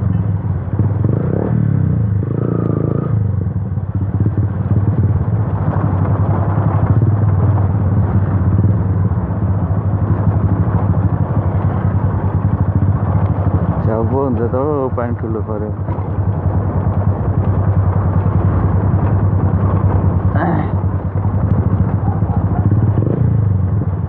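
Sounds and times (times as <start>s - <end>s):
motorcycle engine with loud exhaust: 0.0s - 24.0s.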